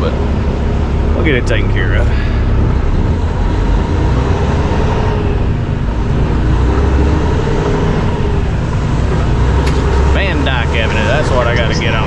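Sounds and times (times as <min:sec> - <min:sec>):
diesel truck engine drone: 0:00.0 - 0:12.0
road noise inside cab: 0:00.0 - 0:12.0.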